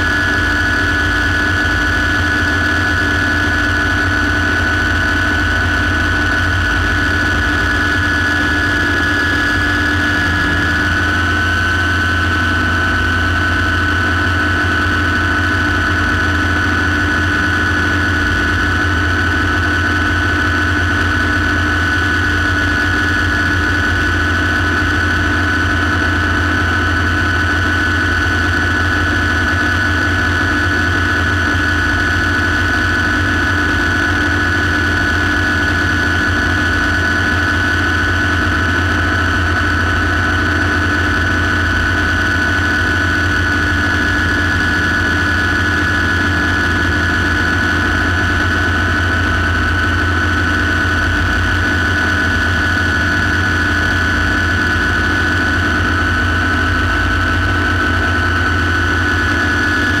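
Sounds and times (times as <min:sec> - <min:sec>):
helicopter turbine whine: 0:00.0 - 1:00.0.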